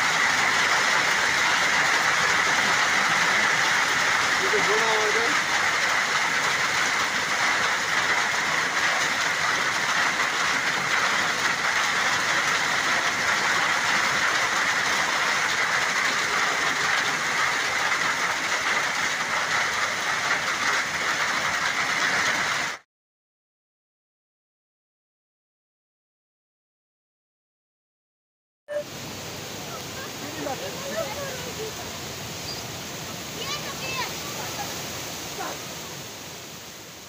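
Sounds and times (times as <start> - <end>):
heavy rain on stone steps: 0.0 - 22.8, 28.8 - 37.0.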